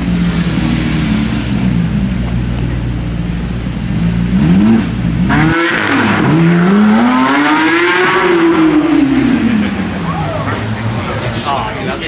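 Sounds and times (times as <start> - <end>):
car engine revving and accelerating: 0.0 - 2.8, 3.8 - 11.7.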